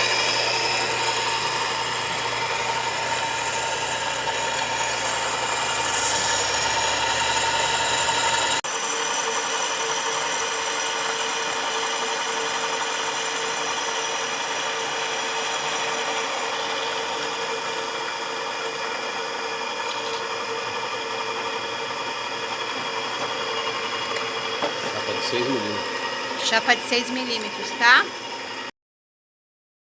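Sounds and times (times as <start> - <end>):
drill press motor running: 0.0 - 28.7.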